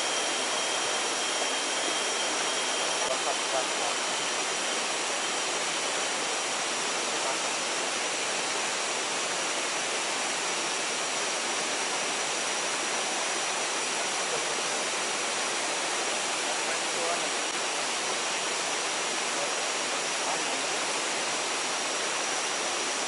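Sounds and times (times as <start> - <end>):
waterfall rushing into pool: 0.0 - 23.0.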